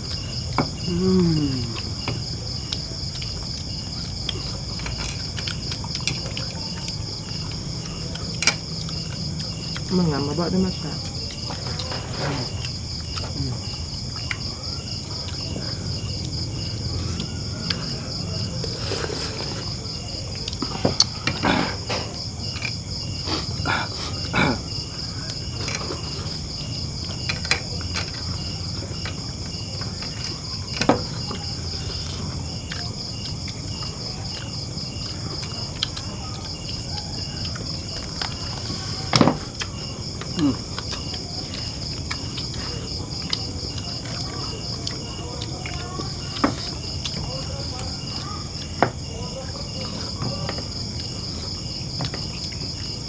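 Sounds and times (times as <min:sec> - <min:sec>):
insect chirping: 0:00.0 - 0:53.0
insects pulsing trill: 0:00.0 - 0:53.0.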